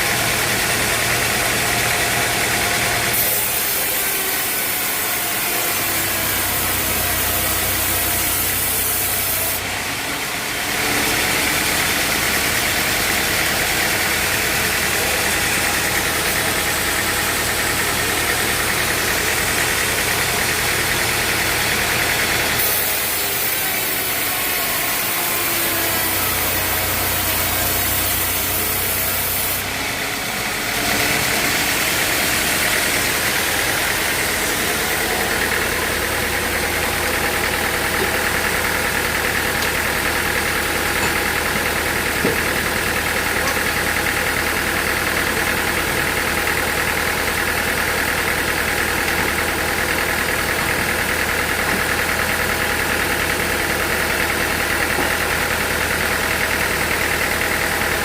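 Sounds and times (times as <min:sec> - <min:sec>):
engine-driven machinery running: 0:00.0 - 0:58.0.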